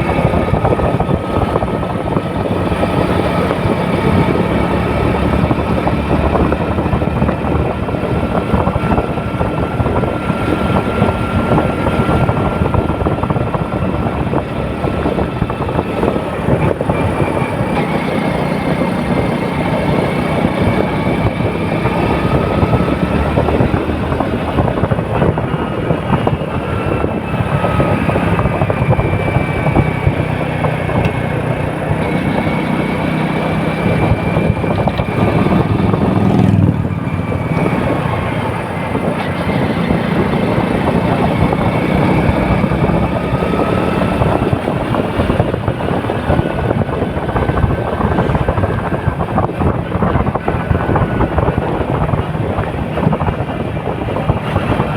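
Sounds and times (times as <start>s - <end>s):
vehicle engine and road rumble: 0.0s - 54.9s.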